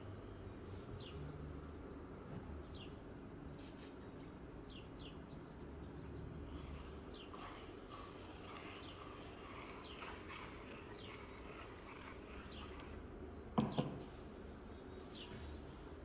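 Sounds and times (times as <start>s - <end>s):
small birds chirping: 2.6s - 15.9s.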